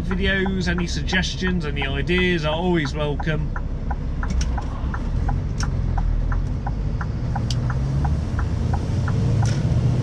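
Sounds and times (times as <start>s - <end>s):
light regular ticking: 0.0s - 9.7s
truck engine and road rumble: 0.0s - 10.0s.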